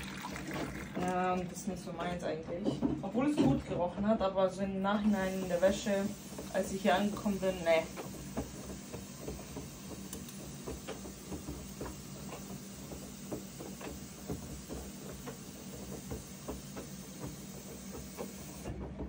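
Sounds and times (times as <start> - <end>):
laundry tumbling and water sloshing: 0.0 - 4.1, 5.2 - 19.0
washing machine motor hum: 0.0 - 19.0.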